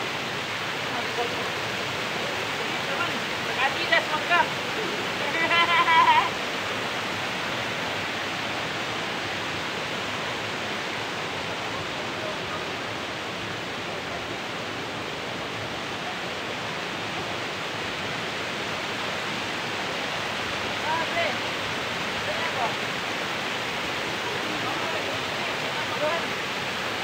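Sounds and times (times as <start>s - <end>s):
waterfall rushing over rock: 0.0s - 27.0s.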